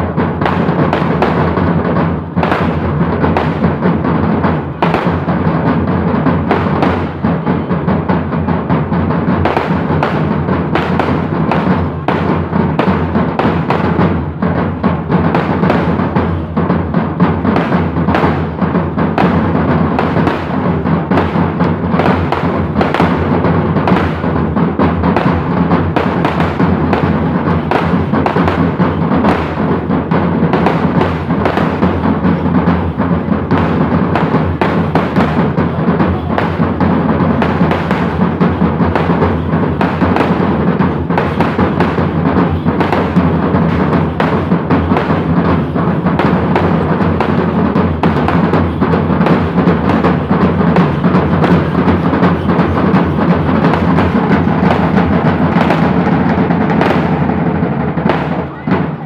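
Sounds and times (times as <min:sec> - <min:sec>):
percussion ensemble drumming: 0:00.0 - 0:59.0.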